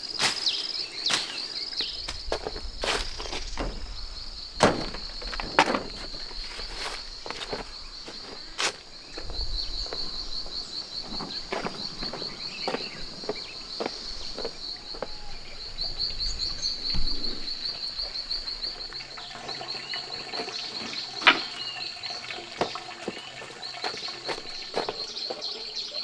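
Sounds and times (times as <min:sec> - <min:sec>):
insect trilling: 0:00.0 - 0:26.0.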